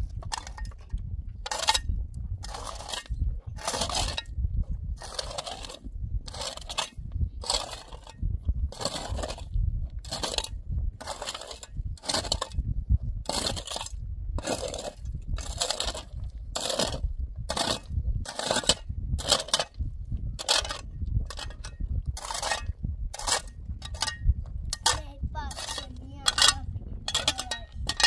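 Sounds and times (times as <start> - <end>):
gritty scraping strokes: 0.0 - 4.4, 5.0 - 28.0
low rumble: 0.0 - 28.0.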